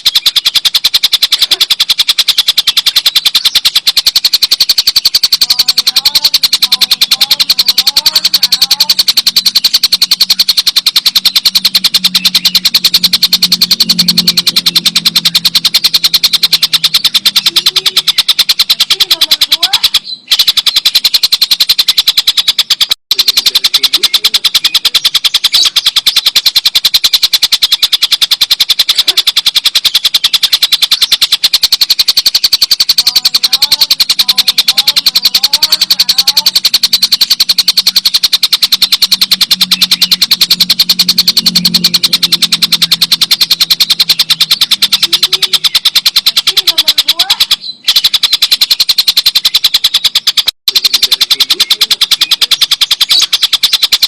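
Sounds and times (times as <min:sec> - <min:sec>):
kingfisher cackling chatter: 0:00.0 - 0:21.1, 0:23.1 - 0:48.2, 0:50.7 - 0:53.5.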